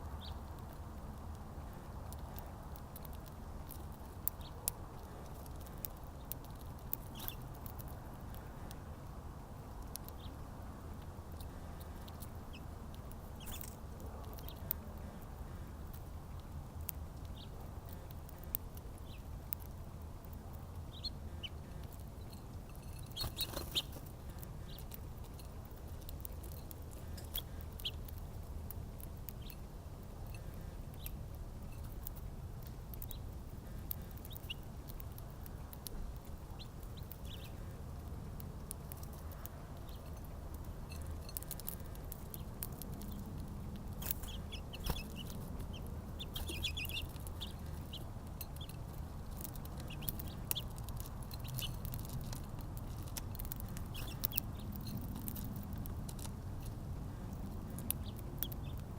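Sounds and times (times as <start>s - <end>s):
small birds chirping: 0.0s - 58.9s
steady low rumble: 0.0s - 58.9s.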